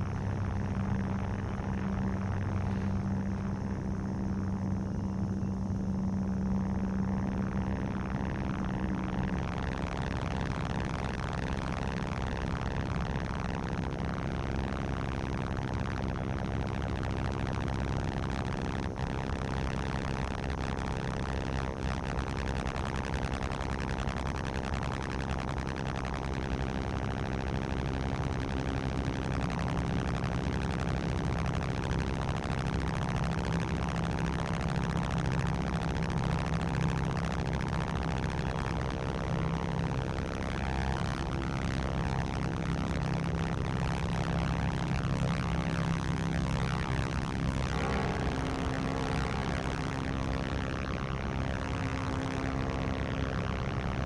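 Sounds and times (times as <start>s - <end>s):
droning electronic music: 0.0s - 54.0s.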